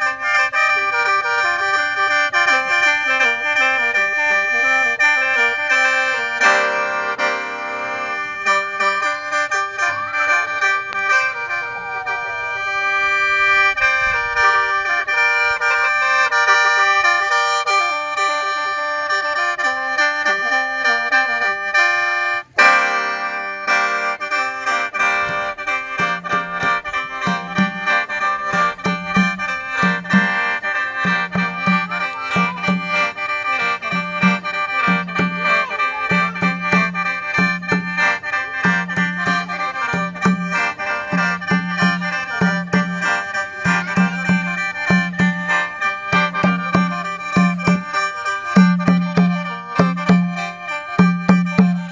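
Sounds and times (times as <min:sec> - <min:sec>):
mouth organ playing chords: 0:00.0 - 0:51.9.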